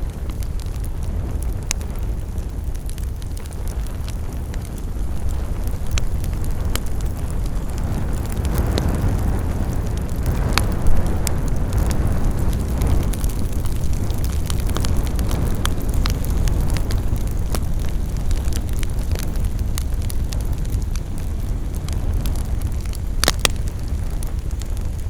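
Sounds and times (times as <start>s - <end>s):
fire crackling and popping: 0.0s - 25.0s
rush of campfire flames: 0.0s - 25.0s.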